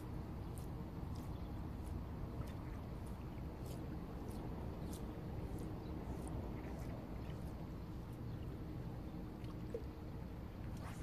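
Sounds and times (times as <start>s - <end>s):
steady low rumble: 0.0s - 11.0s
faint splashes: 0.4s - 11.0s.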